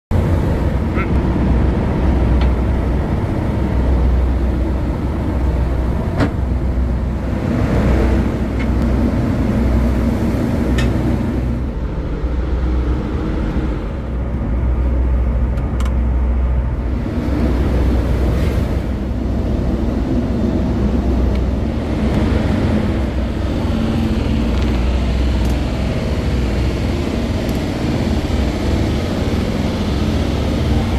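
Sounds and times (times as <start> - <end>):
low rumble of ship engines: 0.1 - 30.9.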